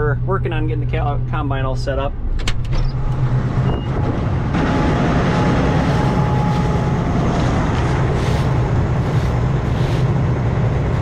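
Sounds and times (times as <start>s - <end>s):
combine harvester engine hum: 0.0s - 11.0s.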